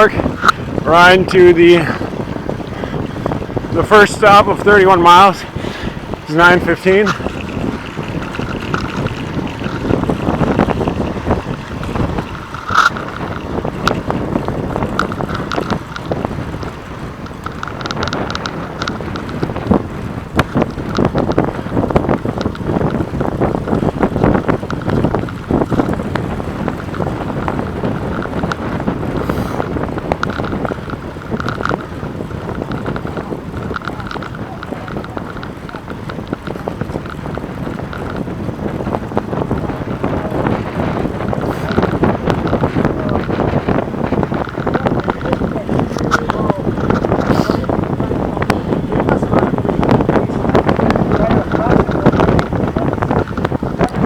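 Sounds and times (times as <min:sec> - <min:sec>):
bicycle clicks and rattles: 0:00.0 - 0:54.0
road and tyre rumble: 0:00.0 - 0:54.0
wind buffeting microphone: 0:00.0 - 0:54.0.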